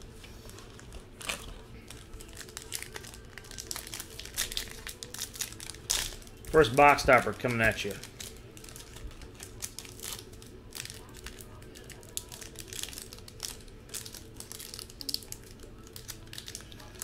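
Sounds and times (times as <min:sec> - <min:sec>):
foil wrapper crinkling and tearing: 0:00.4 - 0:17.0.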